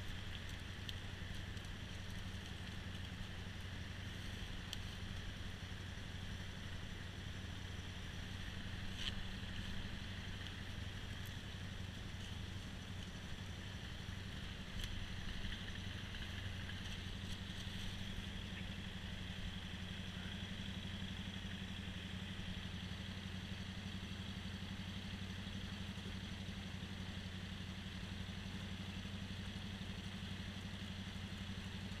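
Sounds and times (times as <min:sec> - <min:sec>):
outboard motor idling: 0:00.0 - 0:32.0.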